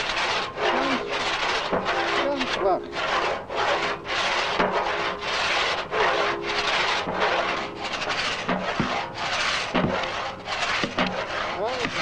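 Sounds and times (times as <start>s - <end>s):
pit saw sawing wood: 0.0s - 12.0s.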